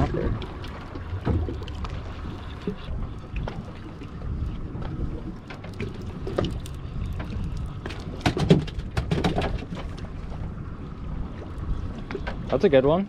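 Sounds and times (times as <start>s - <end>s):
water splashing: 0.0s - 12.8s
knocks and clatters on a boat: 0.0s - 13.0s.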